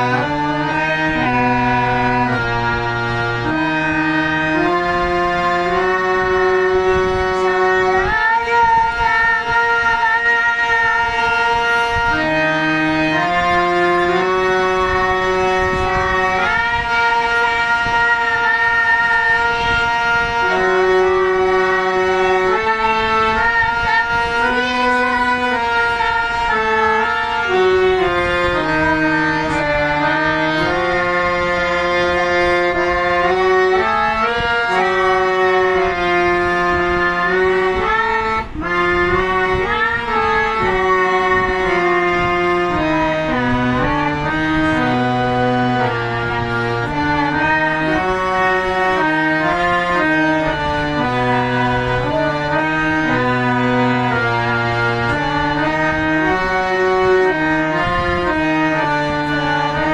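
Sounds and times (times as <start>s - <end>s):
reedy instrumental melody: 0.0s - 59.9s.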